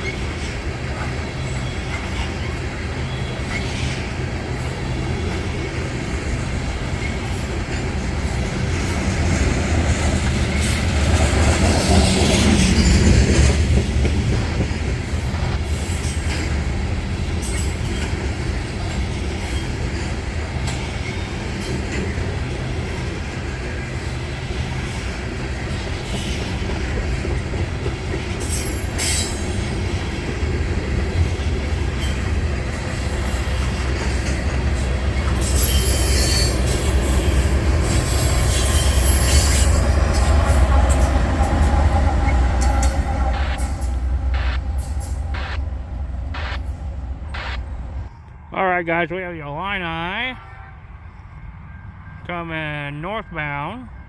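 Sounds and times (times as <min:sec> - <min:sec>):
wheels squealing on rails: 0:00.0 - 0:48.5
train rumbling past: 0:00.0 - 0:54.0.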